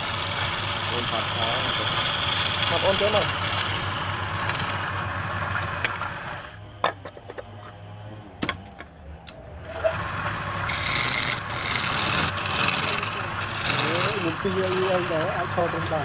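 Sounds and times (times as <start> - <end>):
lathe motor humming: 0.0 - 6.8, 9.4 - 16.0
chisel scraping spinning wood: 0.0 - 7.8, 9.6 - 16.0.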